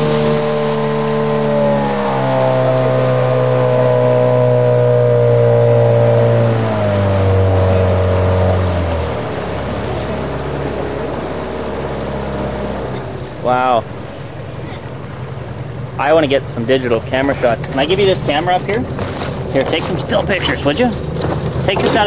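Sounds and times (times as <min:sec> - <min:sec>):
boat outboard motor running: 0:00.0 - 0:22.0.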